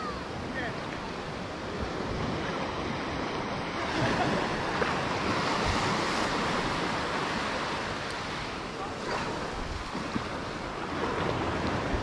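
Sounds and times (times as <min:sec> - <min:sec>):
waves washing up beach: 0:00.0 - 0:12.0.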